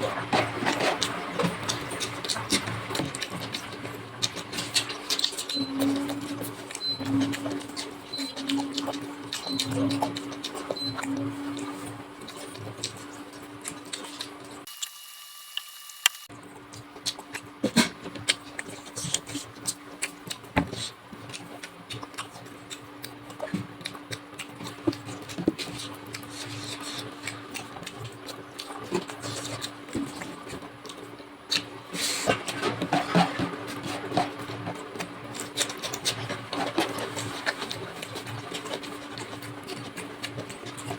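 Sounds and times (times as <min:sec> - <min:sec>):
chewing with wet smacks: 0:00.0 - 0:14.7, 0:16.5 - 0:40.9.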